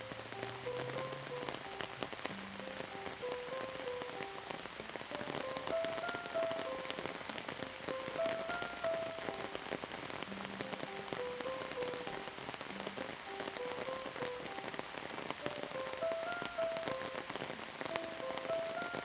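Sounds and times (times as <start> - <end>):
rain falling on a surface: 0.0 - 19.0
slow melody of held notes: 0.0 - 19.0.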